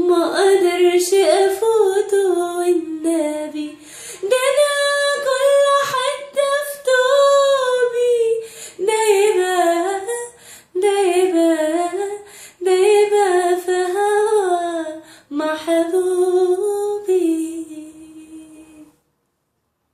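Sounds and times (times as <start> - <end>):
woman singing unaccompanied: 0.0 - 19.0.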